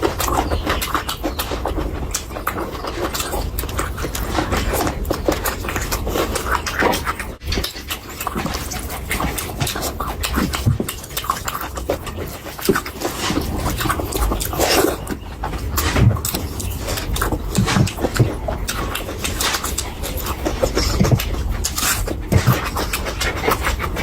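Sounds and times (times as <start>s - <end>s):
lip-smacking and mouth clicks: 0.0s - 24.0s
person chewing food: 0.0s - 24.0s.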